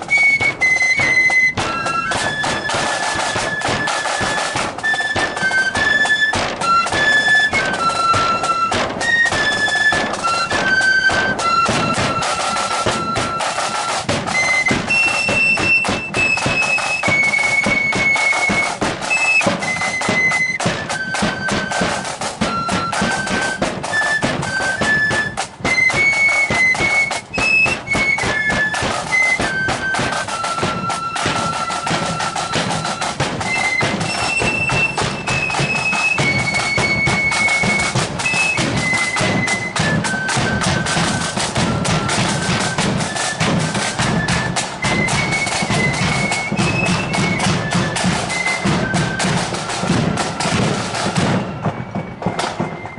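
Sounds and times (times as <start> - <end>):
flutes playing in unison: 0.0 - 52.9
marching drums: 0.0 - 52.9.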